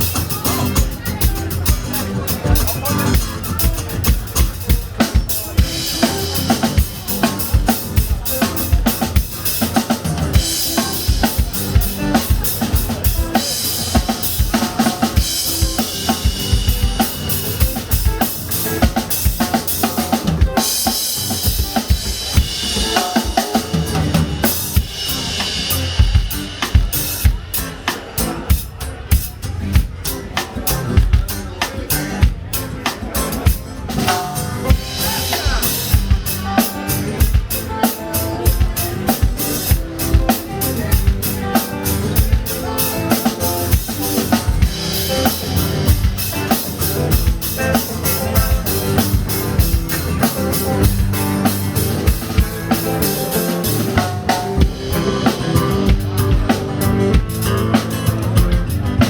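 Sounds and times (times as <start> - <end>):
live band instrumental groove: 0.0 - 59.0.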